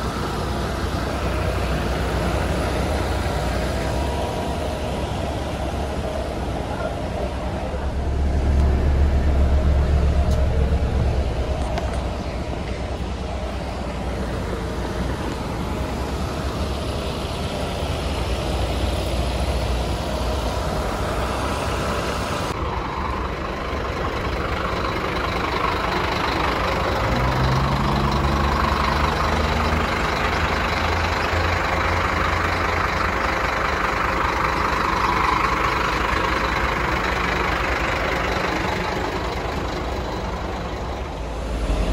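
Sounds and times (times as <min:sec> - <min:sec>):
bus engine accelerating: 0:00.0 - 0:41.9
bus engine rumble: 0:00.0 - 0:41.9.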